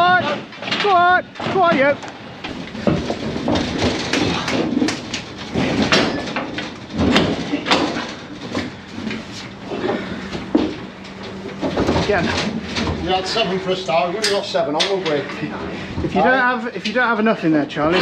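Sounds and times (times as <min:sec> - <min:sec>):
hooves clattering on metal trailer: 0:00.0 - 0:16.2
low hum: 0:01.3 - 0:16.7.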